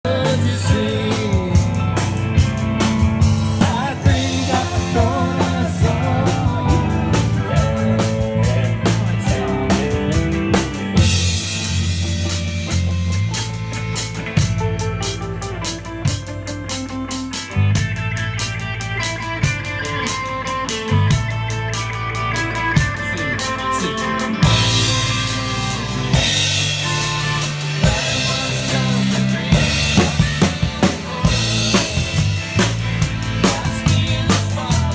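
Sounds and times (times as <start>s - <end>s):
band playing live: 0.0s - 34.9s
drum kit busy beat: 0.0s - 34.9s
low bass notes: 0.0s - 34.9s.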